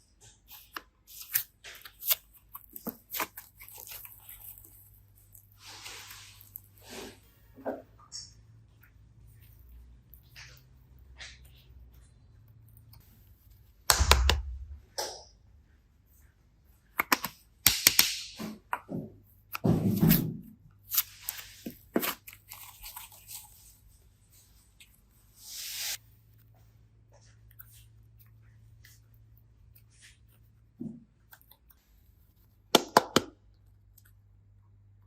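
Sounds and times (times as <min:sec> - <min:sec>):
squishy slime rustling: 0:00.2 - 0:14.1, 0:18.4 - 0:32.7.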